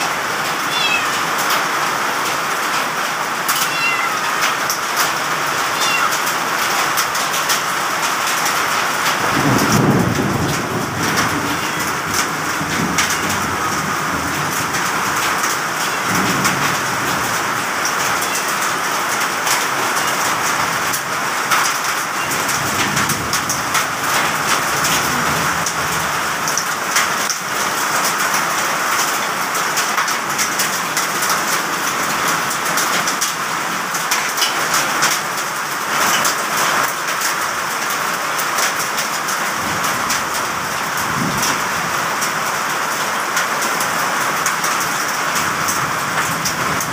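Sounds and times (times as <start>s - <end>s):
heavy rain pouring: 0.0s - 46.9s
raindrops ticking on hard surfaces: 0.0s - 46.9s.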